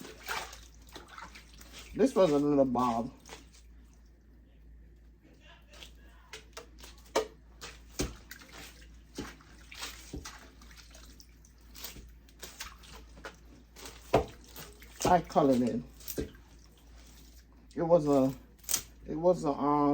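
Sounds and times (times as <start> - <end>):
water sloshing and splashing: 0.0 - 4.4, 5.7 - 19.9.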